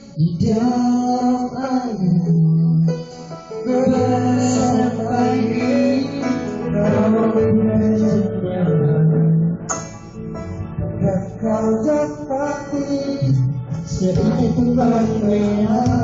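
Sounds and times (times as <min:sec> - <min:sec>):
man singing pop ballad: 0:00.0 - 0:09.9, 0:10.7 - 0:16.0
instrumental backing: 0:00.0 - 0:16.0.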